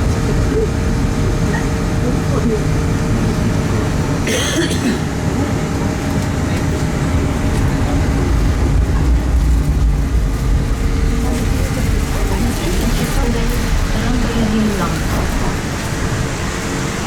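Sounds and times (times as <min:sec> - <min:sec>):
tram rumbling along tracks: 0:00.0 - 0:17.0.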